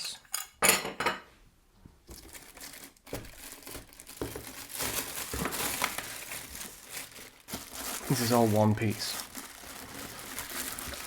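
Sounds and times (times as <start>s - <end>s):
packaging crinkling and rustling: 2.0s - 11.0s.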